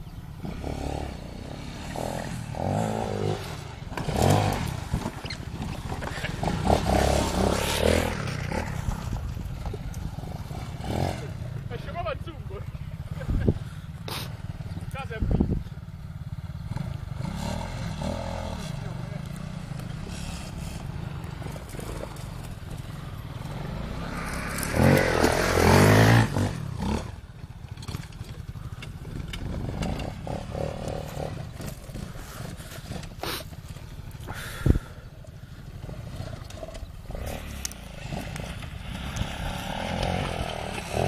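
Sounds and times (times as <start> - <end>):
atv engine revving: 0.0 - 41.0.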